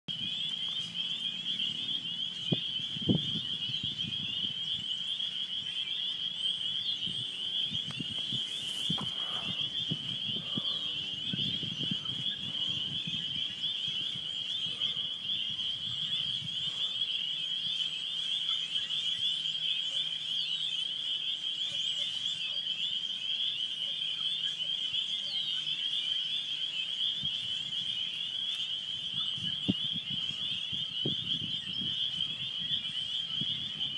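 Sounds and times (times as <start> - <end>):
frogs peeping in chorus: 0.1 - 33.9.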